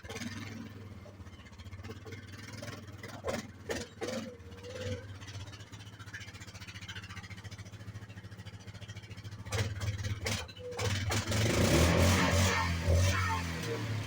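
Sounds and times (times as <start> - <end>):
atv engine idling: 0.0 - 14.0.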